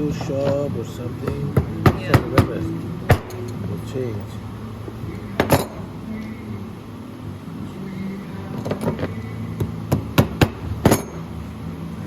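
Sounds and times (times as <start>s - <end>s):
low workshop hum: 0.0s - 12.0s.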